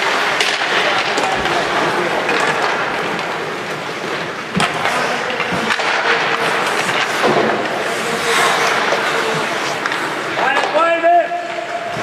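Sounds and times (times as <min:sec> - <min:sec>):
skates scraping on ice: 0:00.0 - 0:12.0
sticks and puck clacking: 0:00.0 - 0:12.0.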